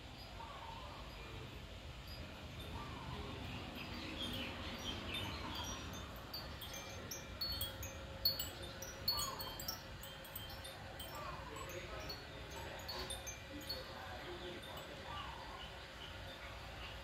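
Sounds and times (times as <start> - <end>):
wind chime tinkling: 0.1 - 17.0.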